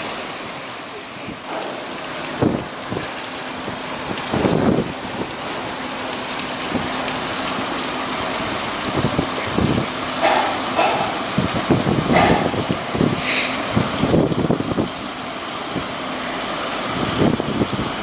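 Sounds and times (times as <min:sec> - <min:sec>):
faint ship engine hum: 0:00.0 - 0:18.0
rain hiss: 0:00.0 - 0:18.0.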